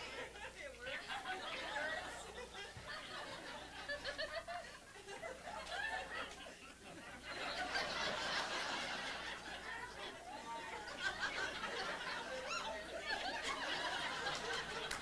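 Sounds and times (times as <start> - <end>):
audience laughing: 0.0 - 15.0.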